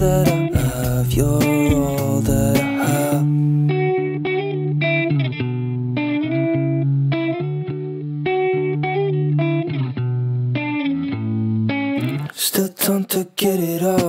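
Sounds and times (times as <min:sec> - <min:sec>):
guitar background music: 0:00.0 - 0:14.0.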